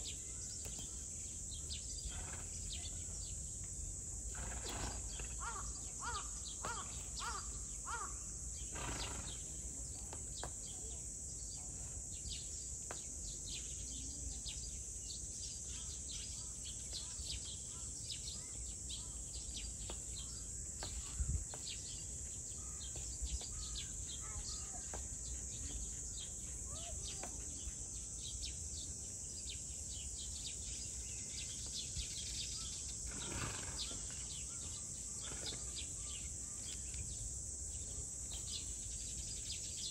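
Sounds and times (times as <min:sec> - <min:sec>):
insects droning: 0:00.0 - 0:39.9
birds chirping: 0:04.4 - 0:14.6, 0:15.4 - 0:39.9.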